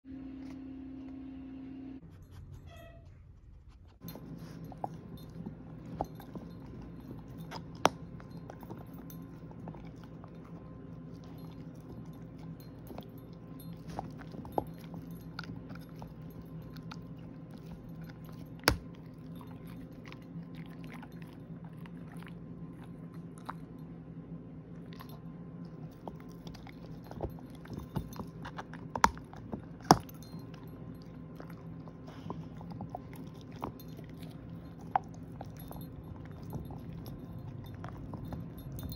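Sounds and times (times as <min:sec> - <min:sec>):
dog chewing hard chew: 0:04.0 - 0:23.8, 0:24.8 - 0:38.9.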